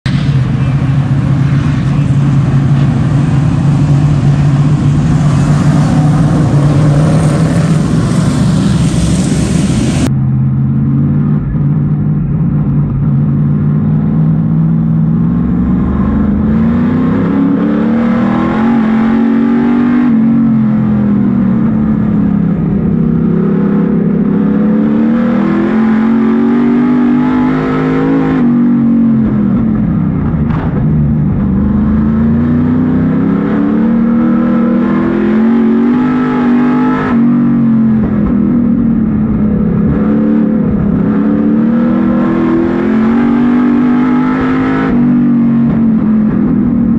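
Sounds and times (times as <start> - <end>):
race car engine droning in cabin: 0.0 - 46.9
race cars running together: 0.1 - 46.9.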